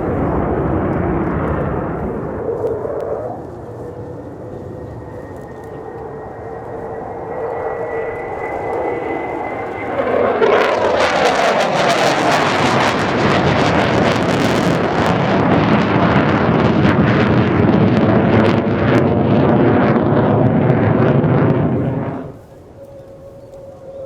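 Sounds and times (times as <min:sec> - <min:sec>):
loud jet rush with crackling: 0:00.0 - 0:23.3
jet engines whining: 0:00.0 - 0:24.0.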